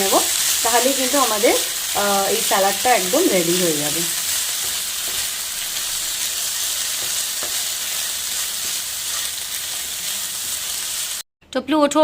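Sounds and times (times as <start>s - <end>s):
food sizzling in a hot pan: 0.0s - 11.3s.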